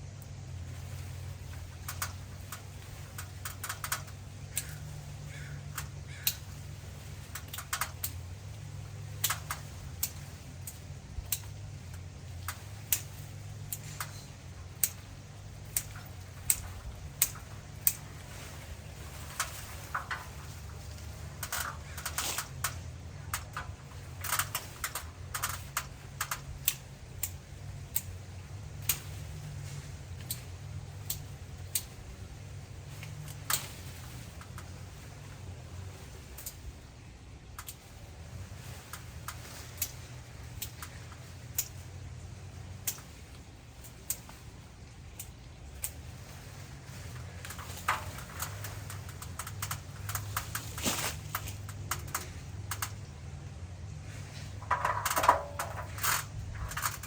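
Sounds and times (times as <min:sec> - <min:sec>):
steady low hum: 0:00.0 - 0:57.0
sharp clicks and snaps: 0:00.1 - 0:36.8, 0:37.4 - 0:53.5, 0:54.2 - 0:57.0.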